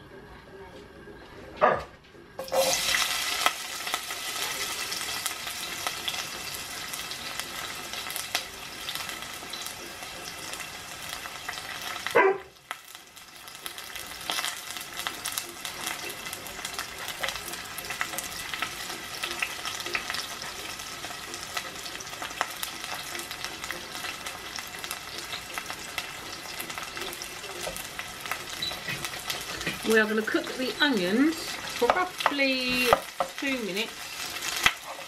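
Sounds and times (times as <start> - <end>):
onions sizzling in a saucepan: 2.4 - 35.0.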